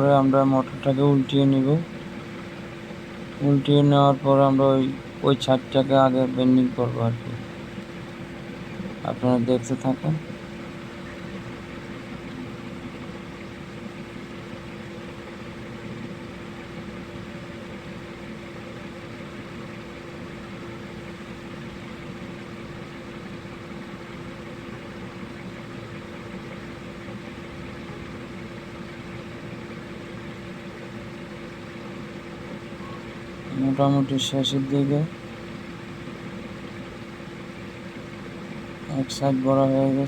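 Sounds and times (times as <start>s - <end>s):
mechanical hum with steady tone: 0.0s - 40.0s.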